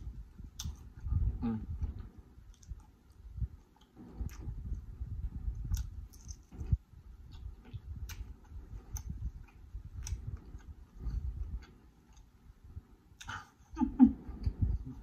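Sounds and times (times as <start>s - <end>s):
close chewing with mouth closed: 0.0s - 12.4s.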